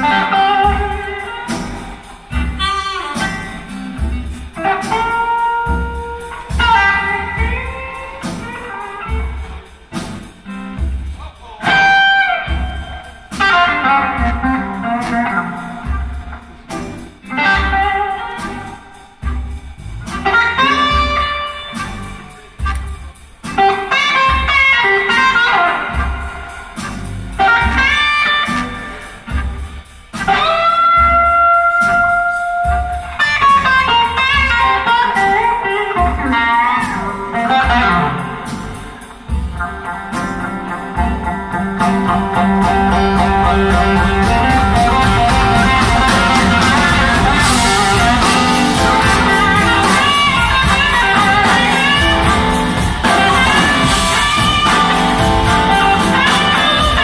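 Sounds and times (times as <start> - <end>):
electric guitar solo: 0.0 - 9.7, 11.6 - 19.4, 20.1 - 22.8, 23.5 - 26.8, 27.4 - 29.4, 30.2 - 57.0
drums and cymbals: 0.0 - 57.0
live blues band: 0.0 - 57.0.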